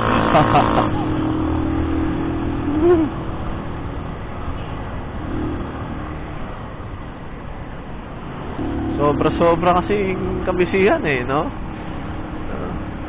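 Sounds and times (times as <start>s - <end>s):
motorcycle engine humming: 0.0s - 13.0s
road traffic noise: 0.0s - 13.0s.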